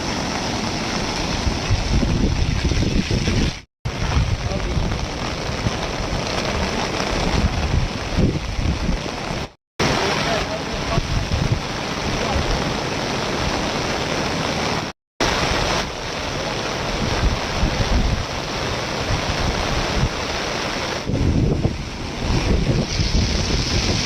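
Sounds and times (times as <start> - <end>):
rushing floodwater roar: 0.0 - 24.0.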